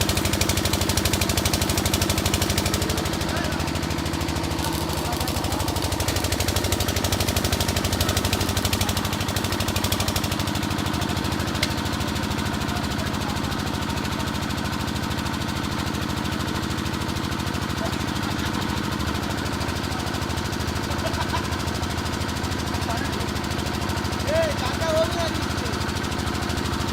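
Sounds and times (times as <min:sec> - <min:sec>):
engine running with fast pulse: 0:00.0 - 0:26.9.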